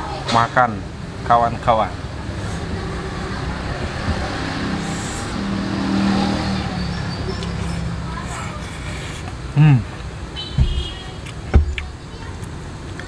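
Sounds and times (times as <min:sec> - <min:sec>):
vehicle engine passing: 0:00.8 - 0:12.8.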